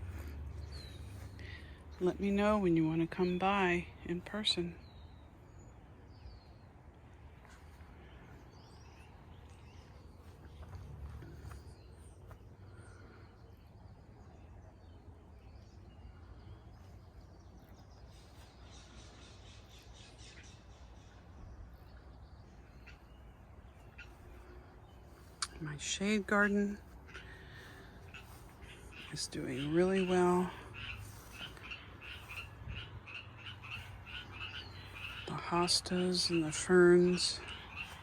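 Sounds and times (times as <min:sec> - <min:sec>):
faint bird chirps and calls: 0:00.0 - 0:38.0
low steady rumble: 0:00.0 - 0:38.0.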